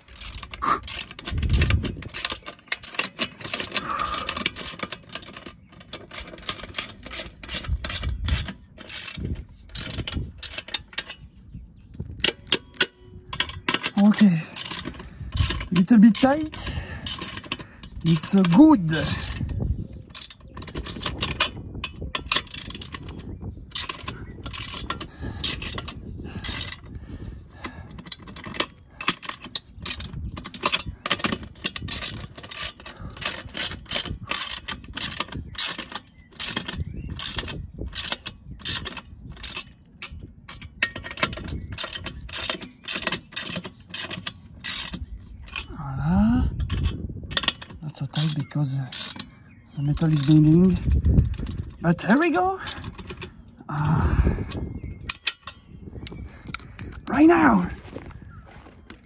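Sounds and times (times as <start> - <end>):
wrench clicking on bolts: 0.0 - 11.2, 12.0 - 27.0, 27.6 - 45.8, 46.5 - 53.9.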